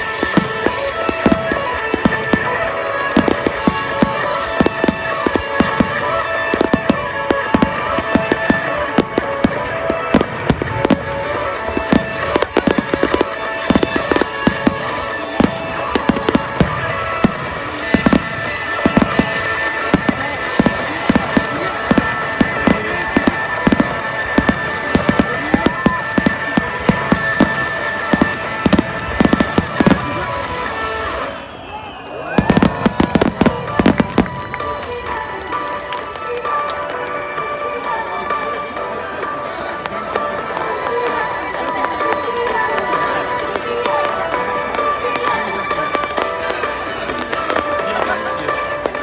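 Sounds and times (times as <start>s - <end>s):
fireworks bangs and crackles: 0.0s - 49.0s
music playing: 0.0s - 49.0s.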